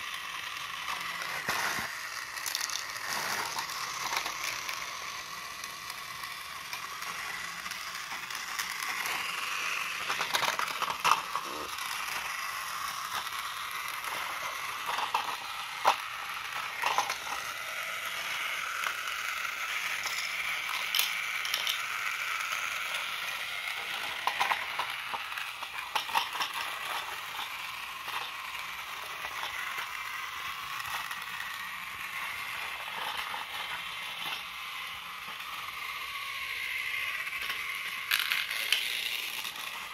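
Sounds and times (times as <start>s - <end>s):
toy train motor whirring: 0.0s - 39.9s.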